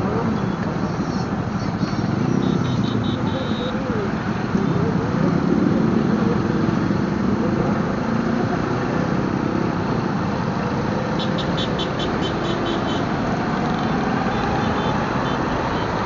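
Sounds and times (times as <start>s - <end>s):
motorcycle engine: 0.3s - 16.0s.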